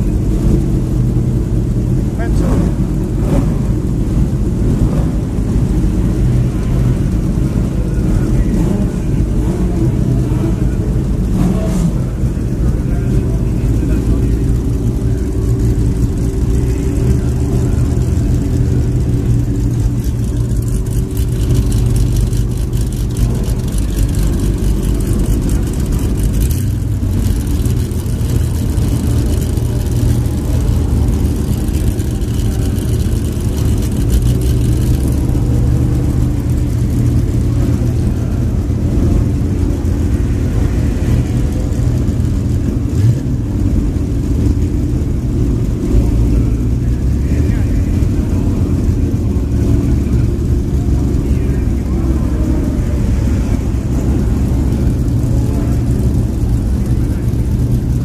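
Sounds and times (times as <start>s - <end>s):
racing car engine running: 0.0s - 58.0s.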